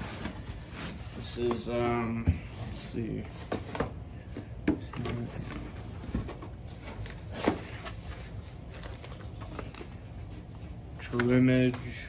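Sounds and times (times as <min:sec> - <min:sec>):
papers and plastic bags rustling: 0:00.0 - 0:12.0.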